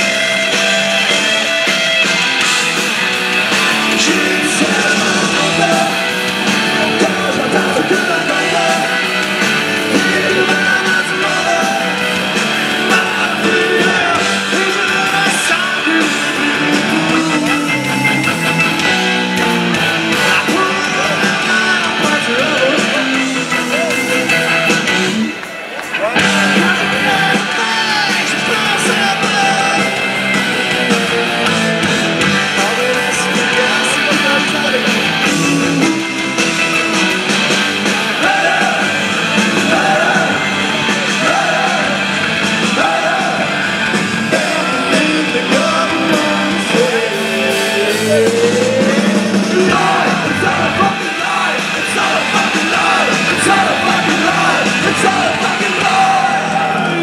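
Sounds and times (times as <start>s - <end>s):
bass guitar: 0.0s - 57.0s
distorted electric guitars: 0.0s - 57.0s
keyboard: 0.0s - 57.0s
person singing: 3.4s - 18.7s, 20.1s - 24.5s, 26.0s - 31.6s, 32.2s - 36.9s, 37.9s - 57.0s.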